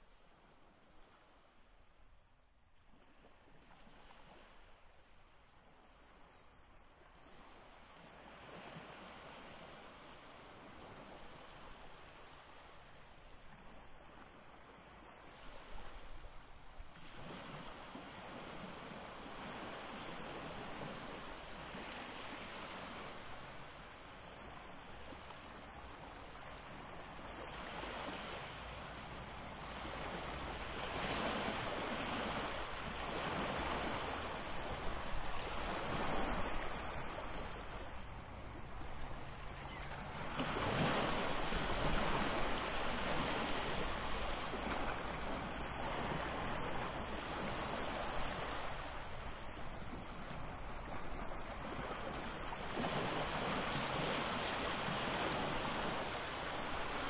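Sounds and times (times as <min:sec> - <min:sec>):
ocean surf: 0:07.1 - 0:57.0.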